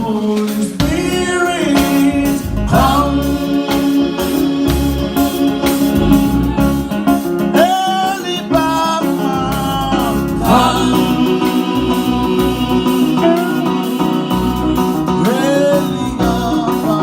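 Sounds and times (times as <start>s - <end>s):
person singing gospel: 0.0s - 17.0s.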